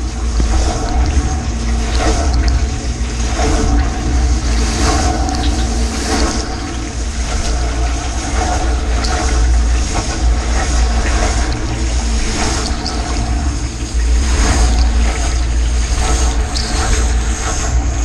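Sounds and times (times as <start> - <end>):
dishwasher low hum: 0.0 - 18.0.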